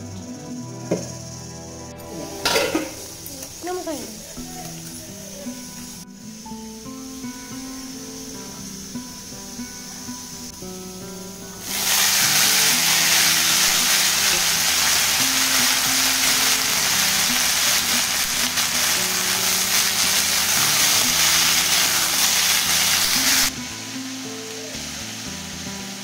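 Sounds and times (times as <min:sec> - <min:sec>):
background music: 0:00.0 - 0:26.0
vegetables sizzling in hot oil: 0:02.0 - 0:26.0.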